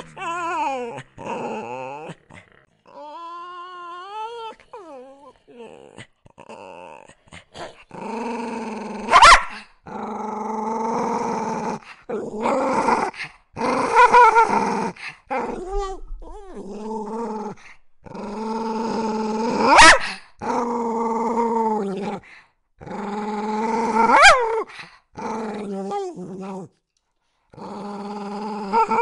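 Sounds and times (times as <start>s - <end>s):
small dog growling: 0.0s - 26.7s, 27.5s - 29.0s.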